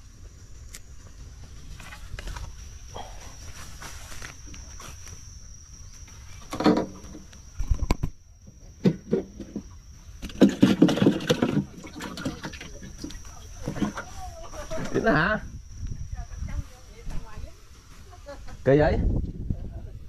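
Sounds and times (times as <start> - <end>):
high-pitched insect trill: 0.0 - 20.0.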